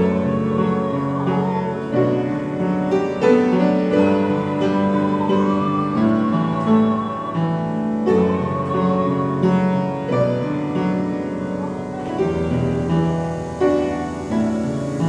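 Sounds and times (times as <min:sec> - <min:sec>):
long-held melody note: 0:00.0 - 0:14.7
slow piano chords: 0:00.0 - 0:15.0.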